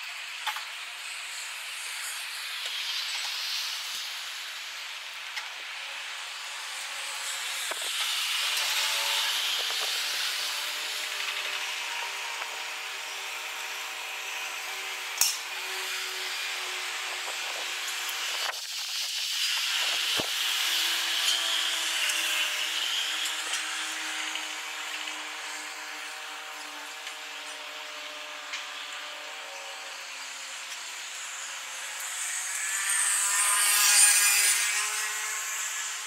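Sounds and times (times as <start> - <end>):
high jet engine whine: 0.0 - 32.8.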